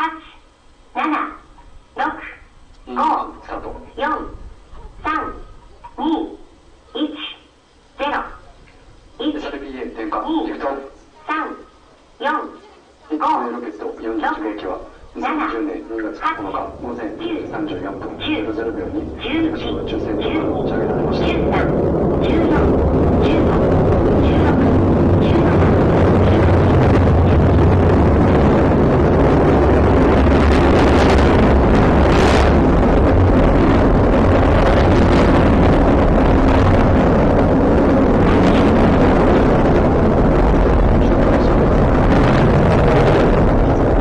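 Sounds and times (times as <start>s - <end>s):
rocket engine roaring: 1.4s - 11.8s, 13.4s - 44.0s.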